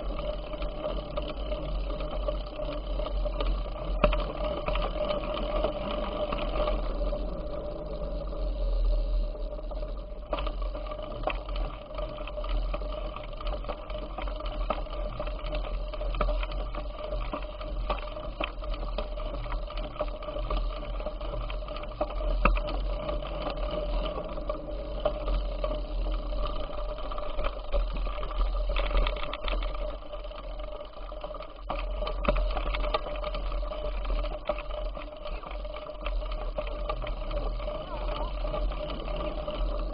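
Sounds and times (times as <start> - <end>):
bicycle whirring and ticking: 0.0 - 39.9.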